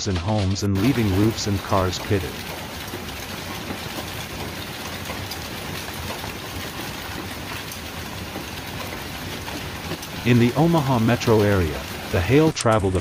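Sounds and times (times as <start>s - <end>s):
hailstones pelting ground: 0.0s - 13.0s.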